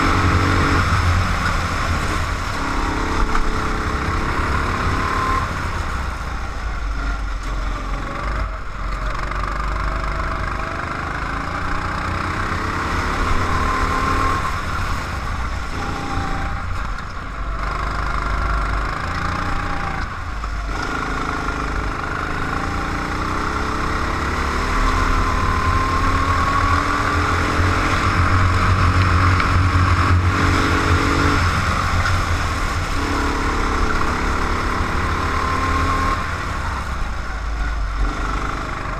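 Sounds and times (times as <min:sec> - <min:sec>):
low rumble and road noise: 0:00.0 - 0:38.9
race car engine revving: 0:00.0 - 0:38.9.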